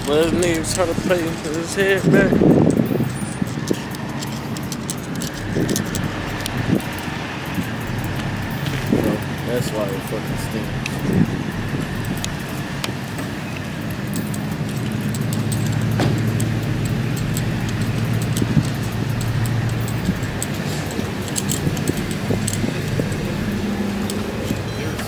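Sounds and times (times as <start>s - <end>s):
vehicle engines humming: 0.0s - 25.0s.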